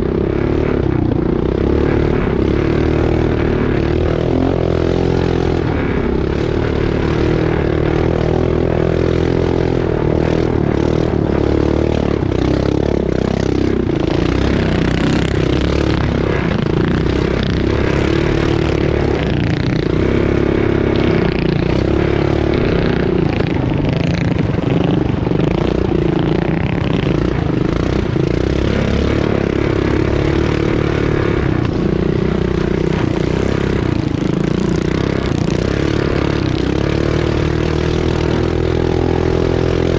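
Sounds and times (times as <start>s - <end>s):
small engine running hard: 0.0s - 39.9s.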